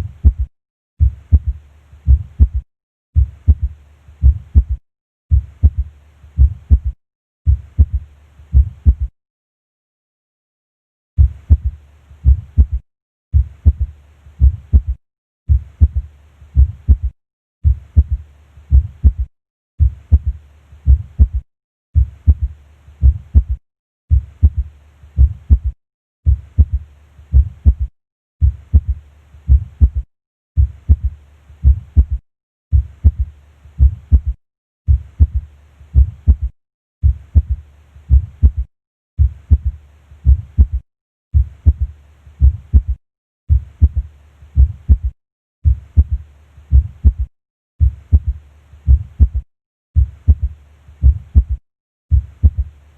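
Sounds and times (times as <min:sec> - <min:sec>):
heartbeat thuds: 0:00.0 - 0:02.6, 0:03.2 - 0:09.1, 0:11.2 - 0:21.4, 0:22.0 - 0:30.0, 0:30.6 - 0:40.8, 0:41.4 - 0:49.4, 0:50.0 - 0:52.7.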